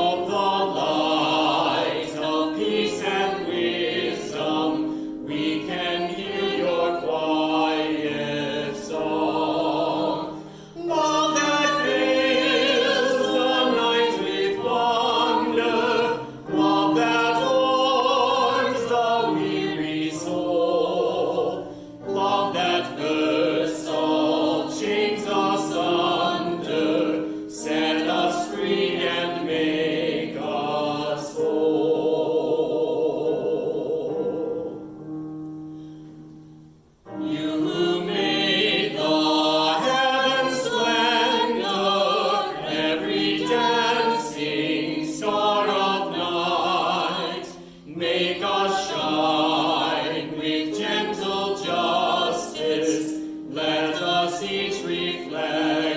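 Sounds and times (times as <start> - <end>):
choir singing a hymn: 0.0 - 35.7, 37.0 - 55.9.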